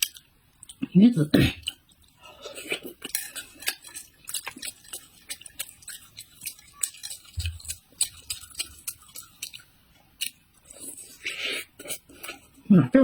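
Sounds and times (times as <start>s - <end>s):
close chewing and mouth sounds: 0.0s - 12.7s.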